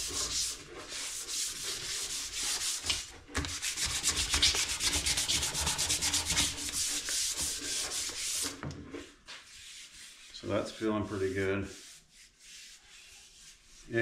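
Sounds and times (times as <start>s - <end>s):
sandpaper rubbing on wood: 0.0s - 8.6s, 9.3s - 14.0s.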